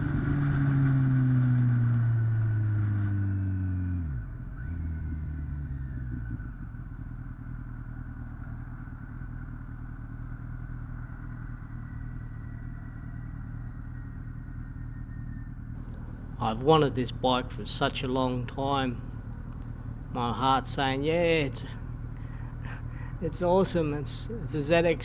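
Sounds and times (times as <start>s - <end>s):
motorcycle engine decelerating: 0.0s - 25.0s.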